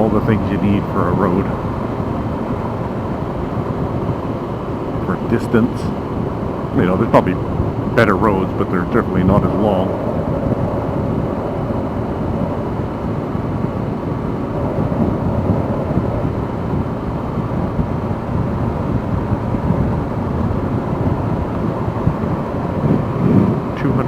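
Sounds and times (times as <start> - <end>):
motorcycle engine and road noise: 0.0 - 24.0
wind buffeting microphone: 0.0 - 24.0.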